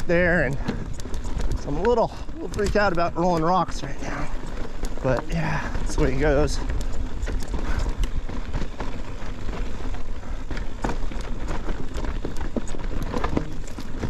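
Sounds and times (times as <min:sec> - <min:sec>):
bike clicks and knocks: 0:00.0 - 0:14.0
tyres crunching on loose rock: 0:00.0 - 0:14.0.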